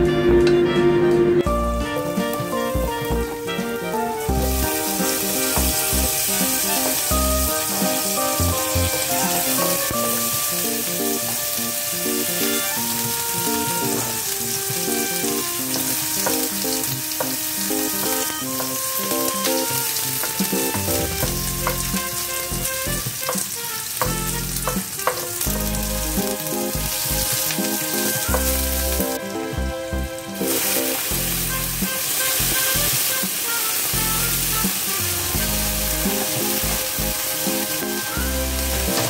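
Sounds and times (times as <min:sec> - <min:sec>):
melodic background music: 0:00.0 - 0:39.0
onion sizzling in hot oil: 0:01.8 - 0:29.3, 0:30.2 - 0:39.0.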